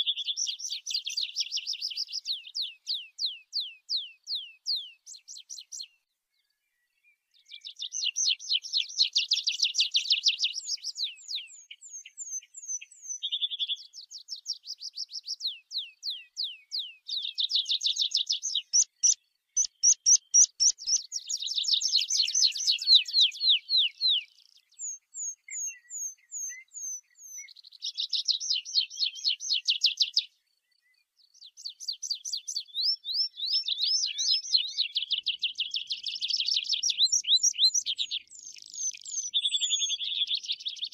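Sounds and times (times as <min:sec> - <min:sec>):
bird singing trills: 0:00.0 - 0:40.9.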